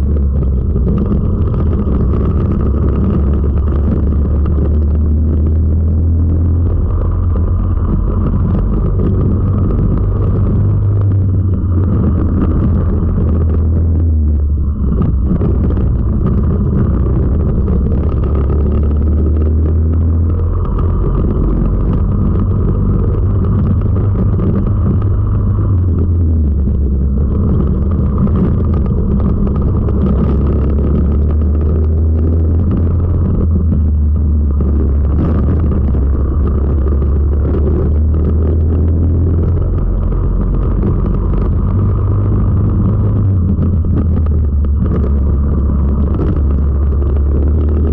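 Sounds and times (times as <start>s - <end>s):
kart engine running hard: 0.0s - 47.9s.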